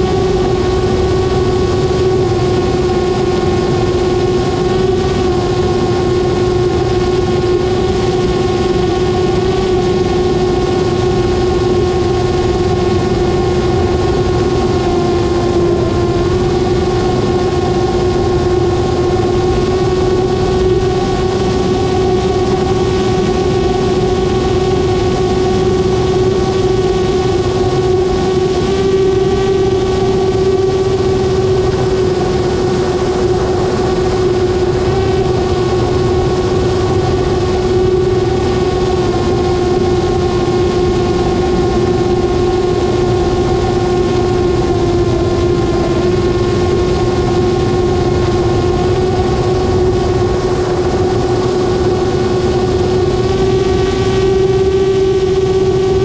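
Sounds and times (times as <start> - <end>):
aircraft propeller engine cruising: 0.0 - 56.0.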